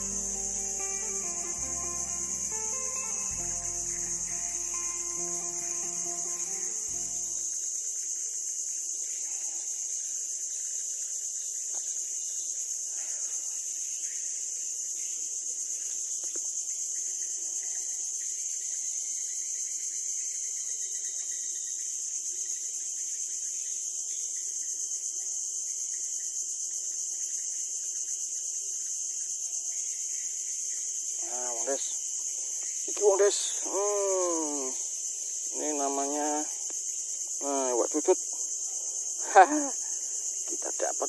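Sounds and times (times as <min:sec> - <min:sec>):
high-pitched insect chorus: 0:00.0 - 0:41.0.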